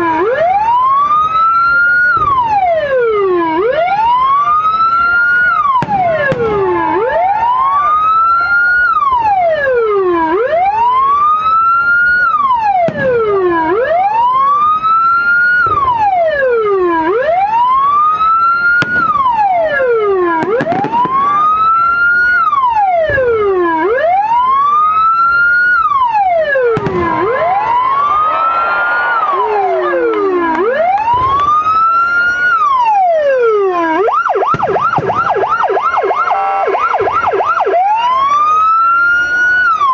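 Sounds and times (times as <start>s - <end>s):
electronic siren wailing: 0.0s - 39.9s
siren fast yelp: 0.0s - 39.9s.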